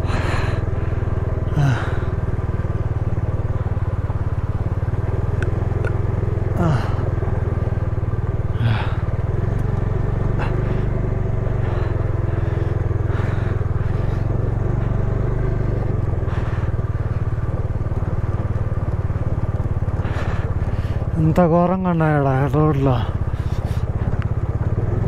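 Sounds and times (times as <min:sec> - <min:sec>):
motorcycle engine running: 0:00.0 - 0:25.0
rattles over rough road: 0:00.0 - 0:25.0.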